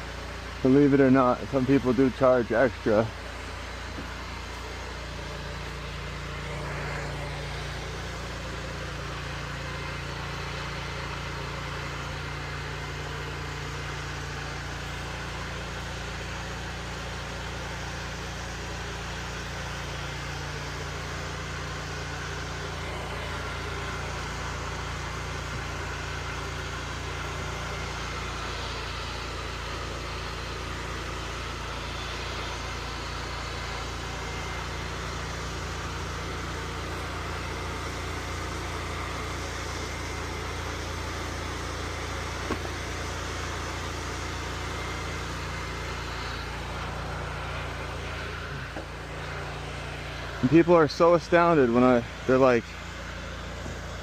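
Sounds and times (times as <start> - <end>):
pressure washer engine running: 0.0 - 54.0.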